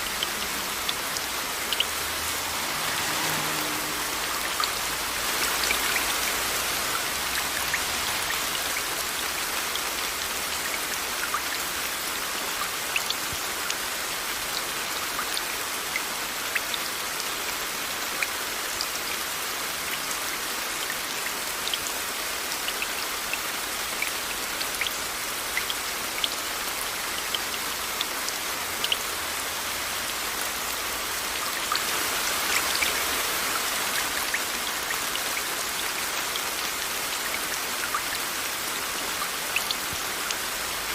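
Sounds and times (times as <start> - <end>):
raindrops ticking on a surface: 0.0 - 40.9
steady rain: 0.0 - 40.9.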